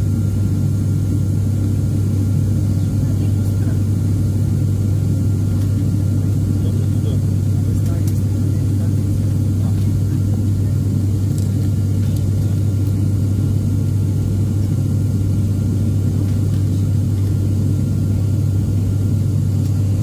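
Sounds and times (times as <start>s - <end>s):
propeller airplane cabin drone: 0.0s - 20.0s.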